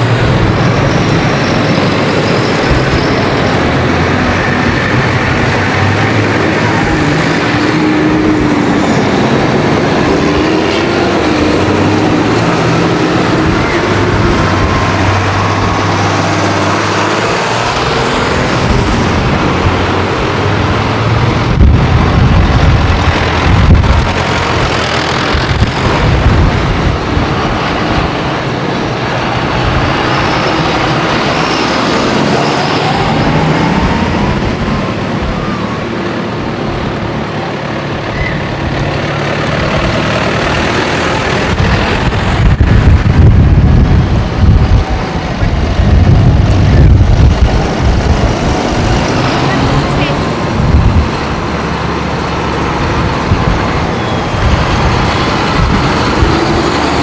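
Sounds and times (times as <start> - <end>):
tractors driving past: 0.0 - 57.0.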